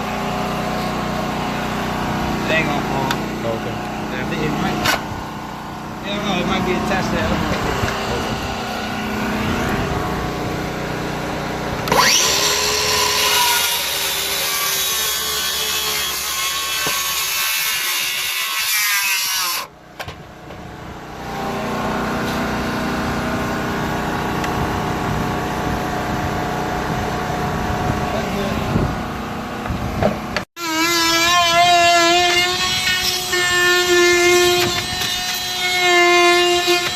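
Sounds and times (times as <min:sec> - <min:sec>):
power saw cutting wood: 0:00.0 - 0:19.7, 0:21.1 - 0:36.9
power saw running: 0:00.0 - 0:19.7, 0:20.8 - 0:36.9.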